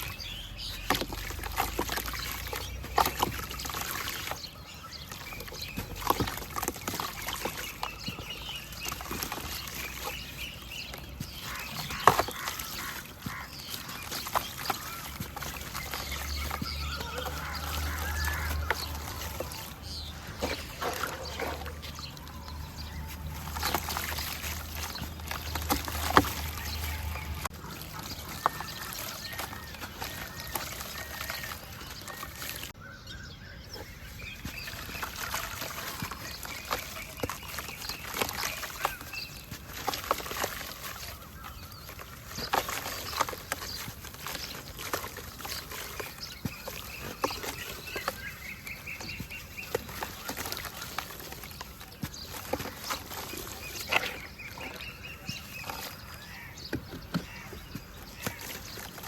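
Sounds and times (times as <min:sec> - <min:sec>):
dirt crumbling with crackles: 0:00.0 - 0:59.0
trickling water: 0:00.0 - 0:59.0.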